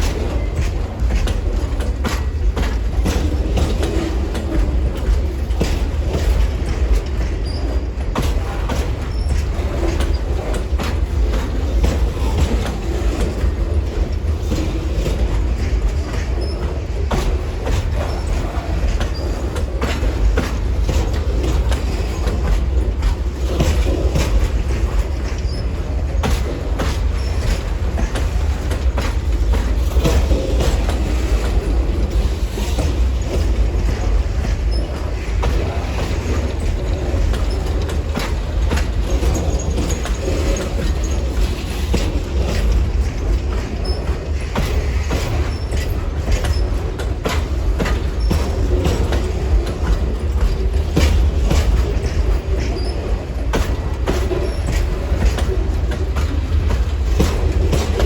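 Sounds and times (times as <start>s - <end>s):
train cars rumbling past: 0.0s - 58.0s
wheels clacking over rail joints: 0.0s - 58.0s.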